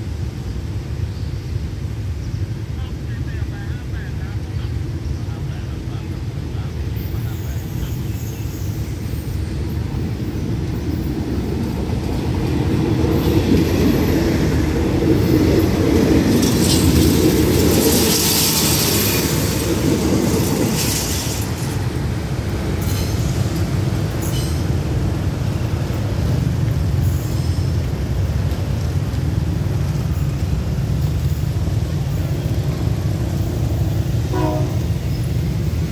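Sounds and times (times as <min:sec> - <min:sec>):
passenger train rumbling past: 0:00.0 - 0:35.9
wheels clattering on rails: 0:06.2 - 0:35.9.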